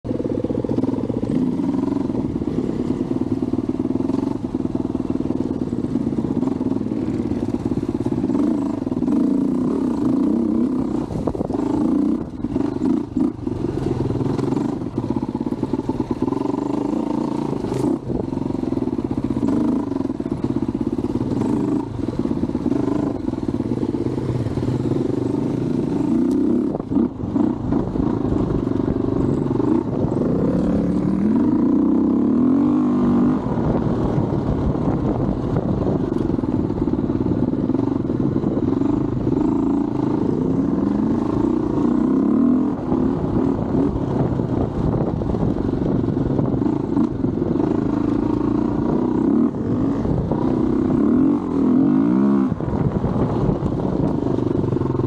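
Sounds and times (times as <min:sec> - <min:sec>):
dirt bike engine revving: 0:00.2 - 0:34.6, 0:37.7 - 0:44.2, 0:46.1 - 0:53.4.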